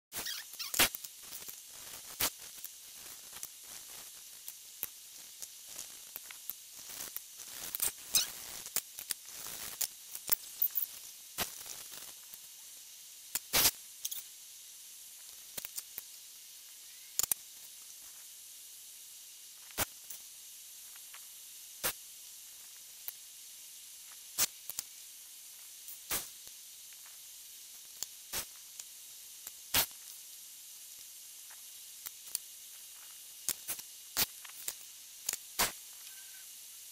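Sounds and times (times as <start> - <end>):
faint steady hiss: 0.2 - 36.9.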